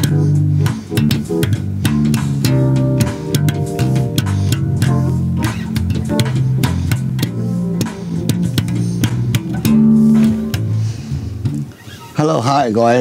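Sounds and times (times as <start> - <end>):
electric bass guitar plucked: 0.0 - 11.8.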